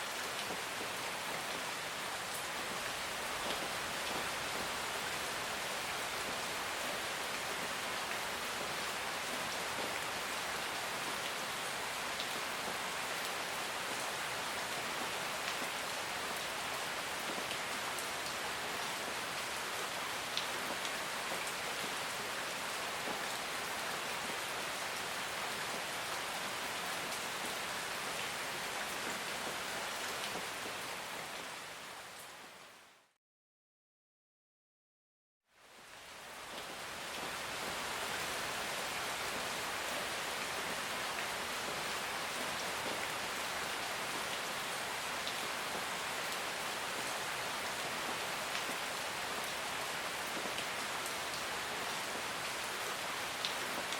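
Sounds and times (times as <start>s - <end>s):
steady rain falling: 0.0s - 33.2s, 35.5s - 53.9s.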